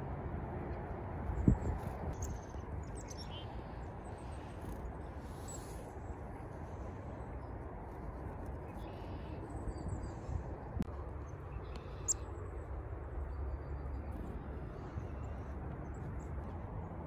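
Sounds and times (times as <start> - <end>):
small birds chirping: 1.4 - 7.6, 8.4 - 16.6.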